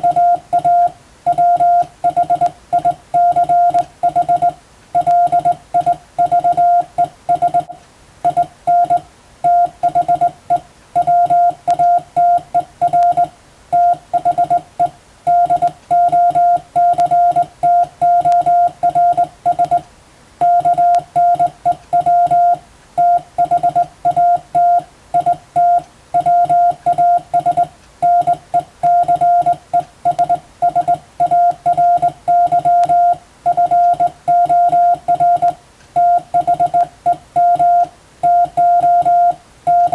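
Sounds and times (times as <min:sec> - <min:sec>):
morse code beeps: 0:00.0 - 0:19.8, 0:20.4 - 0:39.9.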